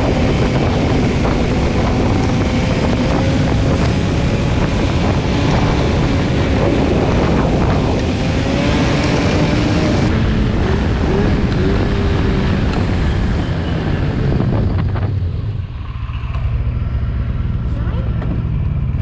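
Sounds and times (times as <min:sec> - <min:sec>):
snowmobile engine running: 0:00.0 - 0:15.5
wind buffeting microphone: 0:00.0 - 0:15.8.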